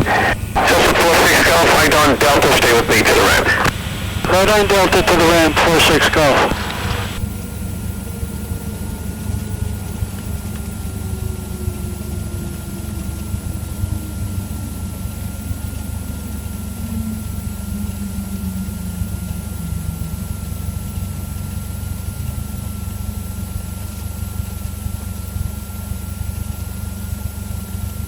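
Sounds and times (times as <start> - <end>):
propeller plane engine idling: 0.0 - 28.0
thin high whine: 0.0 - 28.0.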